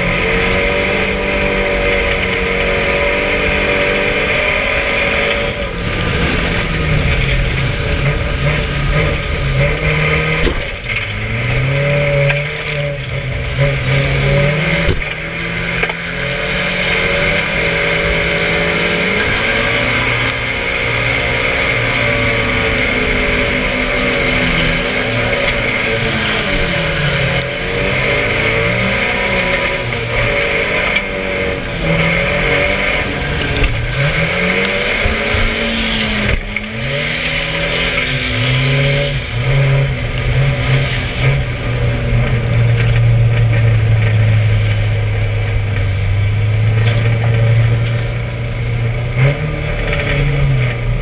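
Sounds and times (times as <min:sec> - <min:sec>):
race car engine: 0:00.0 - 0:51.0.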